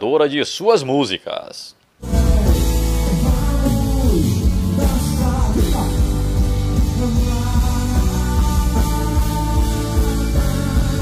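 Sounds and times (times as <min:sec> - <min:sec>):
gospel band playing: 0:02.0 - 0:11.0
person singing: 0:02.0 - 0:11.0.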